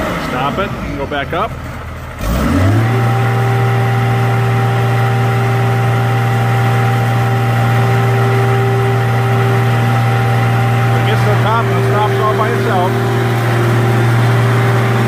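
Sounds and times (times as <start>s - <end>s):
diesel engine and hydraulic pump: 0.0s - 15.0s.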